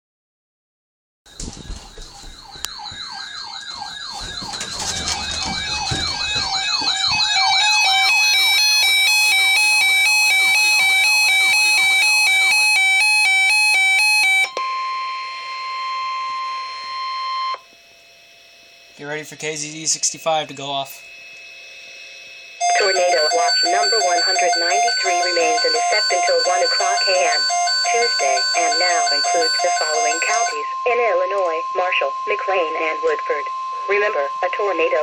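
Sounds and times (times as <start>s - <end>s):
electronic siren-like wail: 1.3s - 17.7s, 22.6s - 35.0s
alternating alarm beeps: 1.3s - 35.0s
steady alarm tone: 1.3s - 35.0s.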